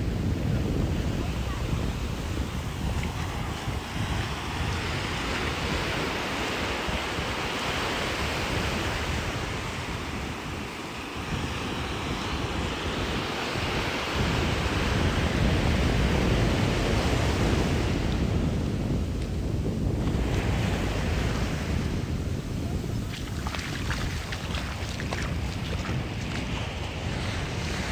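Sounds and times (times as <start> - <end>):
ocean surf washing onto beach: 0.0 - 27.9
wind buffeting microphone: 0.0 - 27.9.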